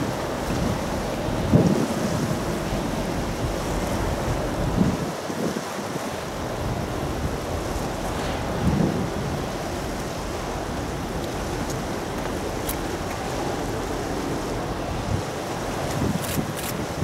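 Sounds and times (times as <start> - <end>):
sea water washing: 0.0 - 17.0
wind buffeting microphone: 0.0 - 17.0.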